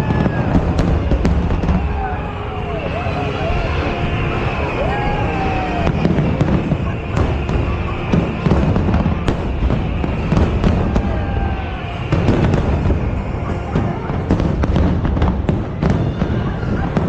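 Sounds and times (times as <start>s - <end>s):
fireworks bangs and cracks: 0.0s - 17.0s
low rumble of explosions: 0.0s - 17.0s.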